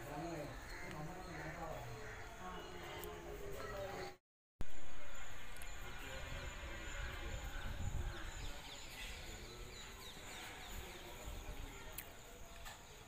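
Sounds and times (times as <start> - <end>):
birds chirping: 0.0 - 4.2, 5.1 - 13.0.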